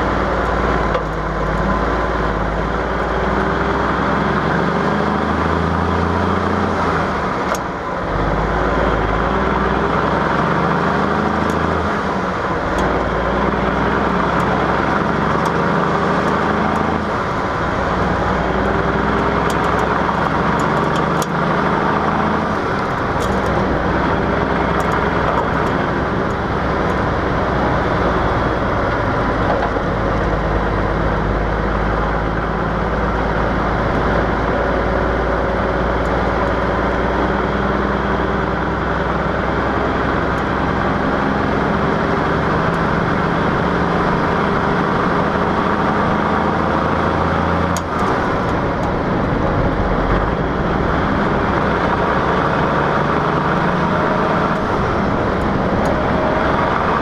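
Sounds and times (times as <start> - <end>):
truck diesel engine pulling: 0.0 - 57.0.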